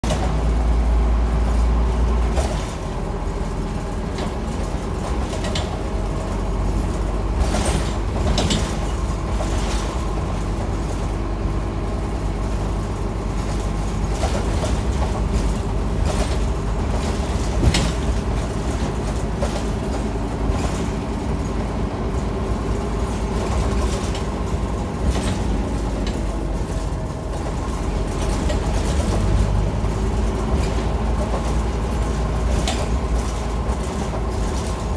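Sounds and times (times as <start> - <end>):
bus engine and road rumble: 0.0 - 34.9.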